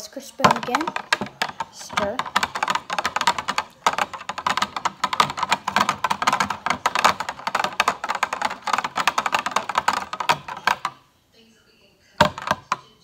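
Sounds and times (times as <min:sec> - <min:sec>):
whisk rattling against glass cup: 0:00.4 - 0:11.0.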